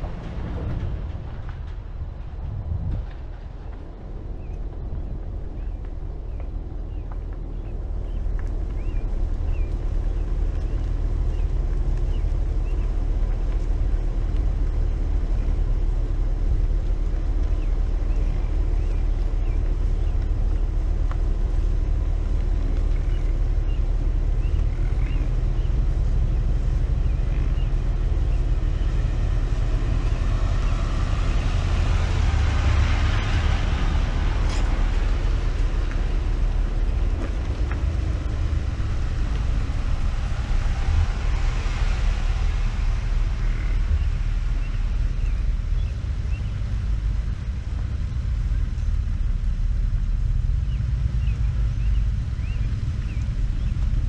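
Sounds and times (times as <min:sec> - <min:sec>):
vehicle engine rumble: 0:00.0 - 0:54.0
wind on microphone: 0:00.0 - 0:54.0.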